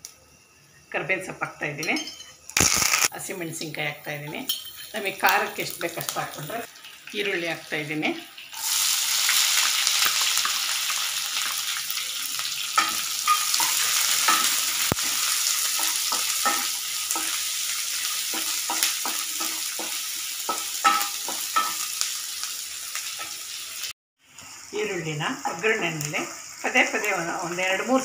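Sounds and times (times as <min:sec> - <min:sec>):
onions sizzling in oil: 0:01.6 - 0:28.0.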